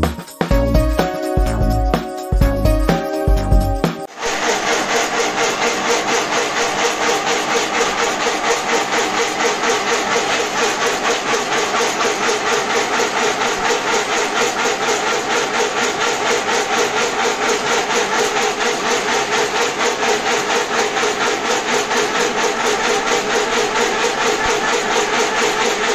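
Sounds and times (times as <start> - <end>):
machine clattering rhythmically: 0.0 - 25.9
steady machine hum: 0.0 - 25.9.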